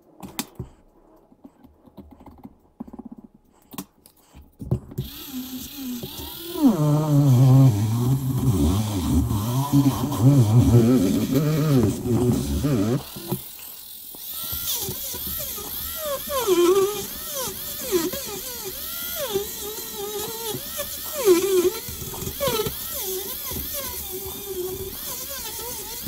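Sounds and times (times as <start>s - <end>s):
rotary tool drilling metal: 5.0s - 26.0s.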